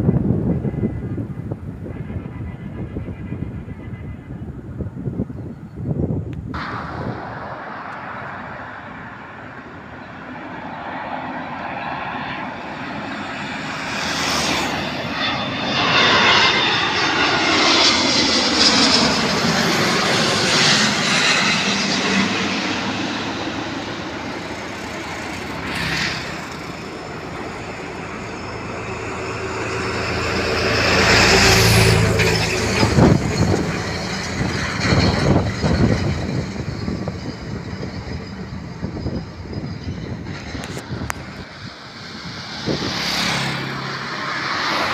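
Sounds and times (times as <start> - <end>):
jet airliner roaring overhead: 0.0 - 44.9.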